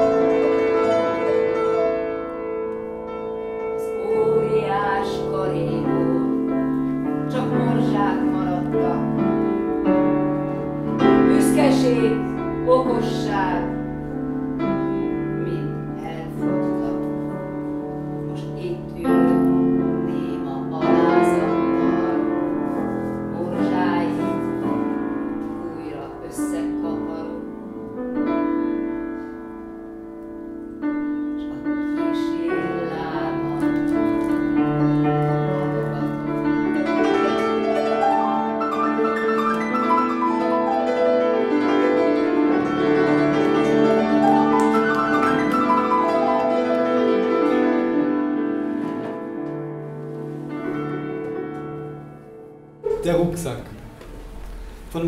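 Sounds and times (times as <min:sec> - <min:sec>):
slow piano piece: 0:00.0 - 0:55.0.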